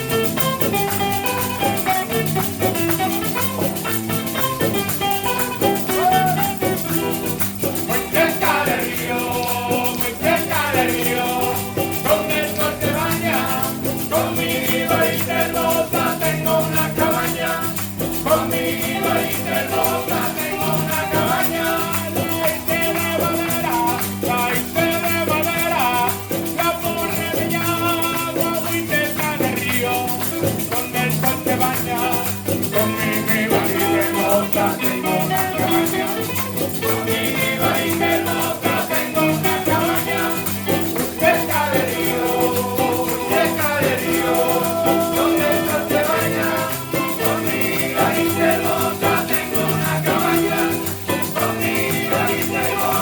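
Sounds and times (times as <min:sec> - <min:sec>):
shaken percussion: 0:00.0 - 0:53.0
group singing over instruments: 0:05.6 - 0:53.0.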